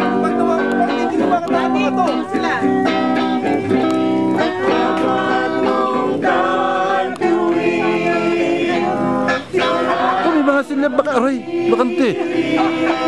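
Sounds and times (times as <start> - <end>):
guitar accompaniment: 0.0 - 13.0
people singing: 0.0 - 13.0.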